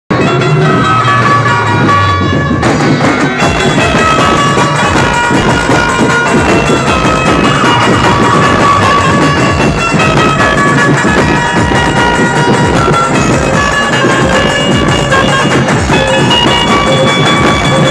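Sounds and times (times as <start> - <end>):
dense drumming: 0.1 - 17.9
held melody notes: 0.1 - 17.9
loud band music over loudspeakers: 0.1 - 17.9.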